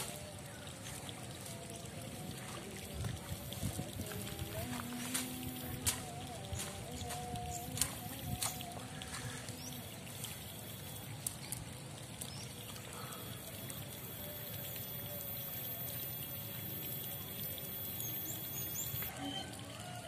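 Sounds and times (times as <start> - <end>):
water trickling: 0.0 - 20.0
thin high tone: 1.6 - 19.5.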